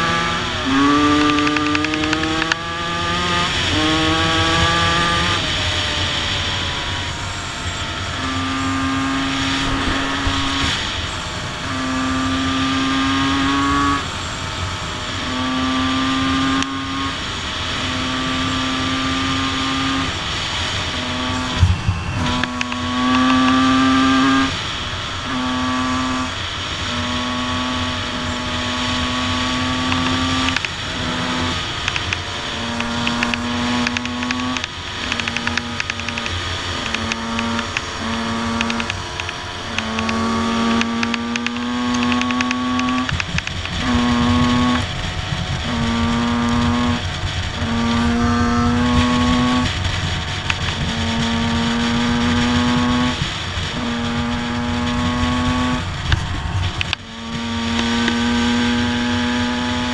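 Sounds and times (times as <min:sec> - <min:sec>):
two-stroke motocross bike engines: 0:00.0 - 0:59.9.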